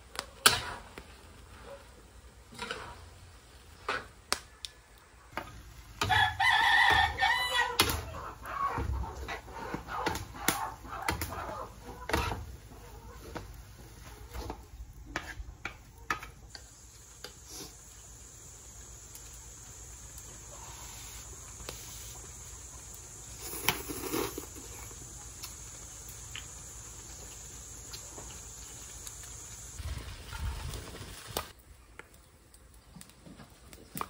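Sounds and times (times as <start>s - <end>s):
steady high hiss: 0.0s - 33.2s.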